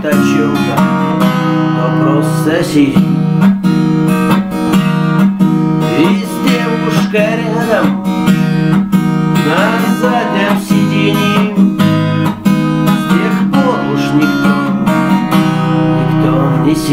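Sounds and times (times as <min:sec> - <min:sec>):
man singing: 0:00.0 - 0:03.3, 0:05.8 - 0:08.5, 0:09.4 - 0:16.9
acoustic guitar strumming: 0:00.0 - 0:16.9.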